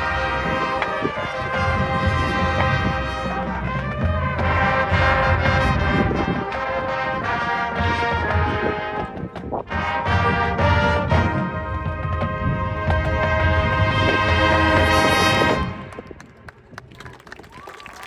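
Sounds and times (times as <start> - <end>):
marching band playing: 0.0 - 16.3.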